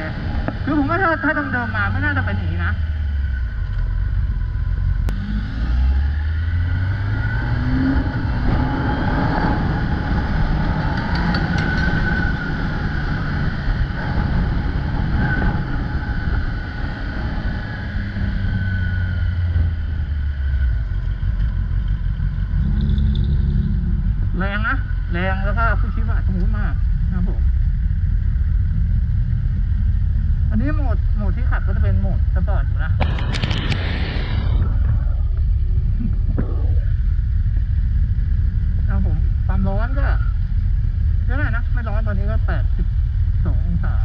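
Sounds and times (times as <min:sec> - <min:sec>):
motorcycle engine accelerating: 0:00.0 - 0:41.9
wind noise: 0:00.0 - 0:44.0.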